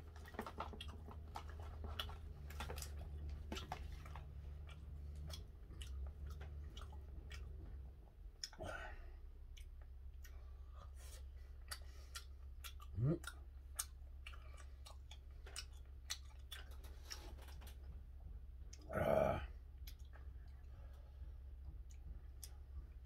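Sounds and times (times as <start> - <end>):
chewing and mouth noises: 0.0 - 18.9, 19.7 - 23.0
steady low hum: 0.0 - 23.0.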